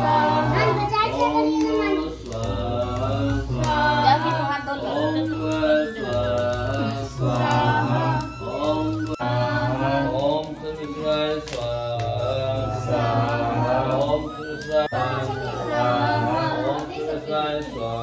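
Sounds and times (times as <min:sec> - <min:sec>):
person chanting melodically: 0:00.0 - 0:18.0.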